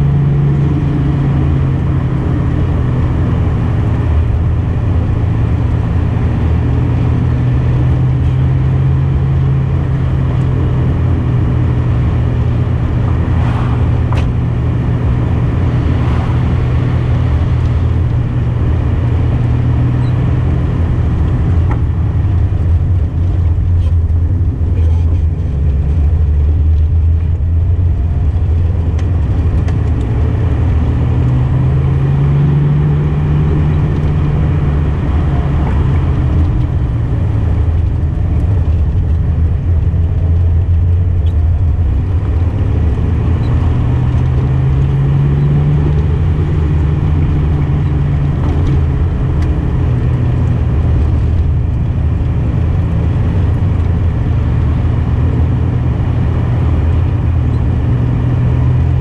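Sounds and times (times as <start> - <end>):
car engine cruising: 0.0 - 59.0
road noise: 0.0 - 59.0.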